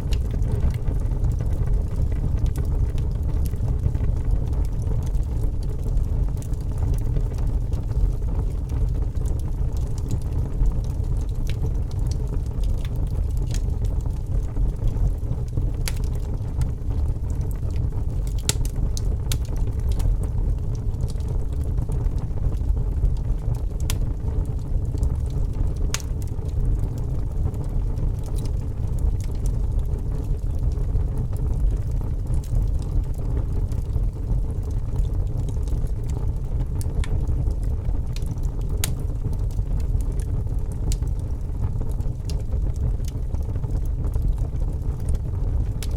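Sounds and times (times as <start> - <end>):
campfire crackling: 0.0 - 45.9.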